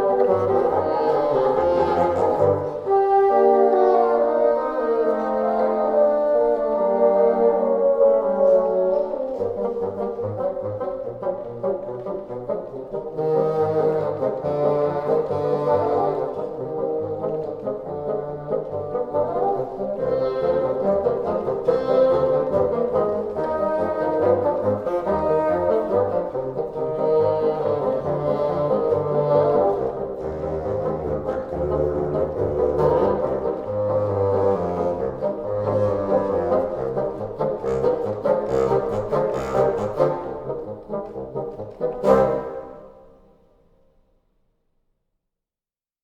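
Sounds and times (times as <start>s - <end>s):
wind ensemble playing chords: 0.0s - 43.2s.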